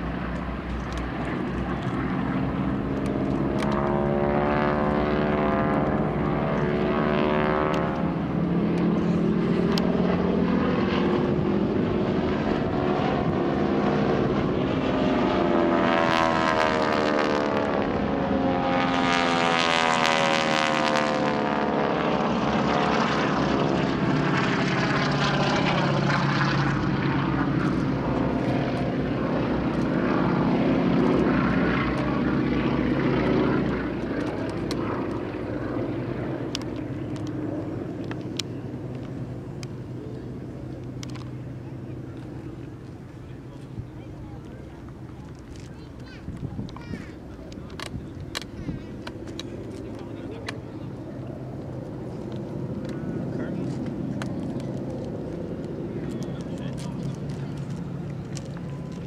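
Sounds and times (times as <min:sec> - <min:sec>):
radial aircraft engines droning overhead: 0:00.0 - 0:59.0.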